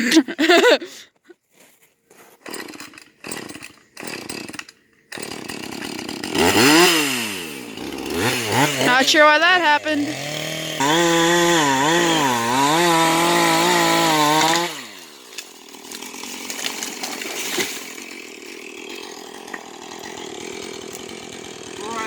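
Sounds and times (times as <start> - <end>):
chainsaw running at high revs: 2.5 - 22.0.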